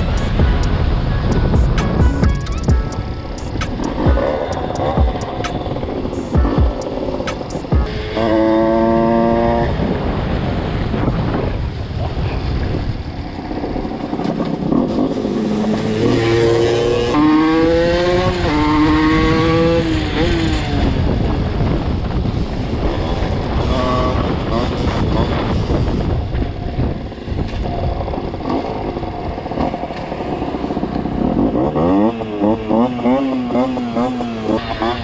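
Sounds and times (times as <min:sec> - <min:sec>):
two-stroke motorcycle engine: 0:00.0 - 0:10.0, 0:12.6 - 0:35.0.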